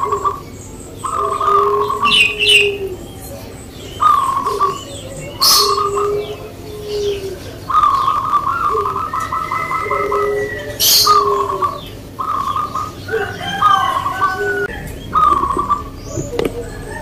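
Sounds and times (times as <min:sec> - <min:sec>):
doves cooing: 0:00.0 - 0:17.0
softer lower dove coos: 0:00.0 - 0:17.0.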